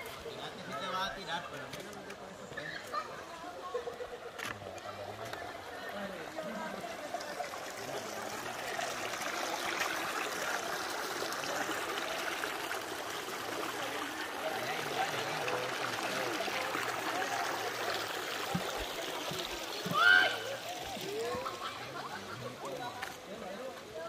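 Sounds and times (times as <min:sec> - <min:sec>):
stream of water running: 0:00.0 - 0:24.0.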